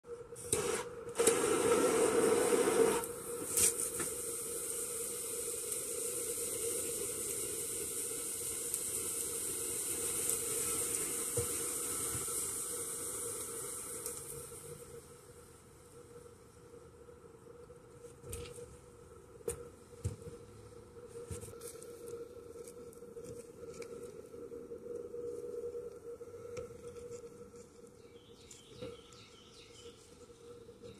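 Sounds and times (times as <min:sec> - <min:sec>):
thermite burning hiss: 0:00.2 - 0:18.7, 0:19.3 - 0:30.9.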